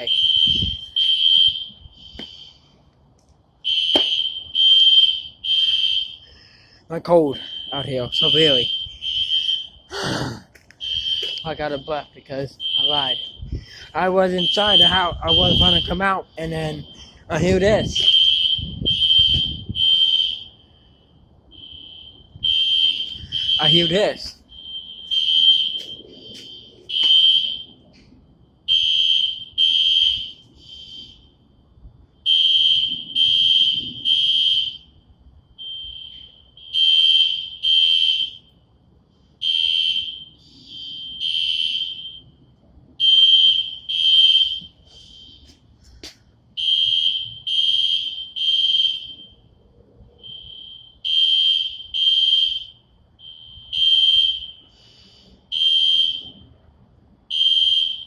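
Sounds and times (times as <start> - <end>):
fire alarm beeping: 0.0 - 2.8, 3.6 - 54.9, 55.5 - 56.6, 57.3 - 58.0.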